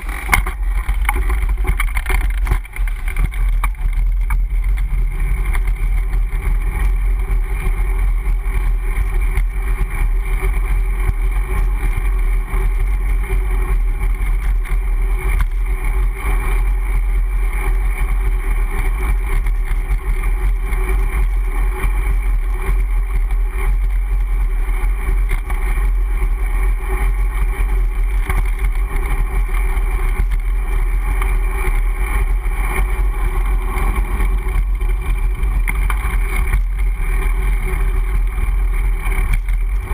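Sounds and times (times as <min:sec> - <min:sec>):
heavy low rumble: 0:00.0 - 0:39.9
rolling road noise: 0:00.0 - 0:39.9.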